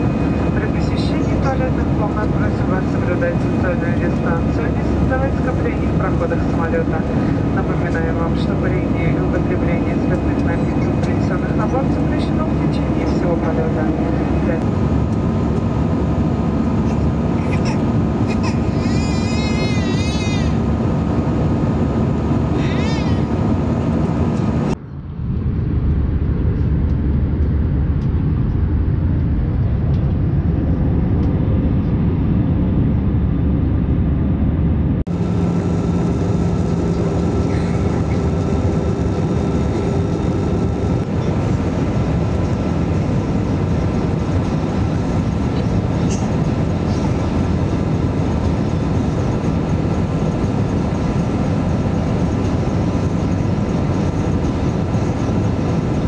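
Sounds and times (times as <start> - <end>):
airplane cabin roar: 0.0 - 56.0.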